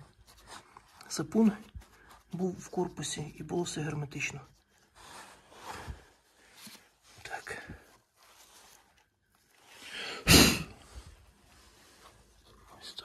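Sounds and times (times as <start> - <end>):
rustling and handling noises: 0.0 - 10.0, 10.7 - 13.0.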